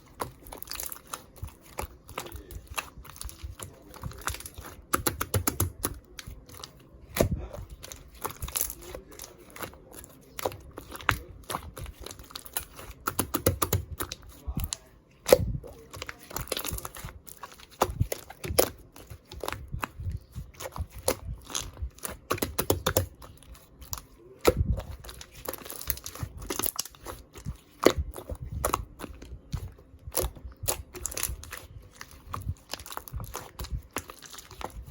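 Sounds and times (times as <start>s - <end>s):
slime crackling and popping: 0.0s - 34.9s.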